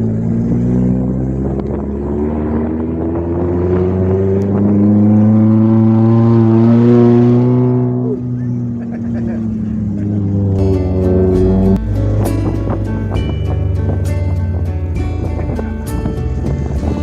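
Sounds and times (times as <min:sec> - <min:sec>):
vehicle engine accelerating: 0:00.0 - 0:17.0.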